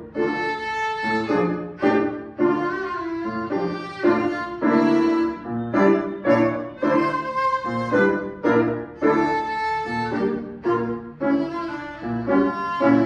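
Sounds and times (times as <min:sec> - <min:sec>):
grand piano accompaniment: 0:00.0 - 0:13.0
violin melody: 0:00.0 - 0:13.0.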